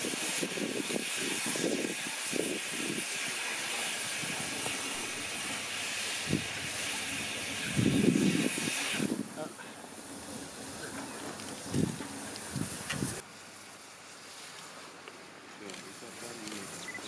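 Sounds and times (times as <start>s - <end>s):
low steam puffs: 0.0s - 17.0s
steady steam hiss: 0.0s - 17.0s.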